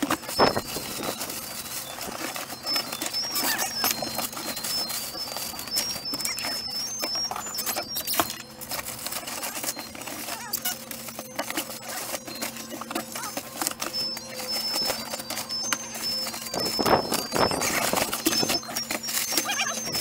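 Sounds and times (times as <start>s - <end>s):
cardboard boxes clattering and rustling: 0.0s - 20.0s
freezer hum: 0.0s - 20.0s.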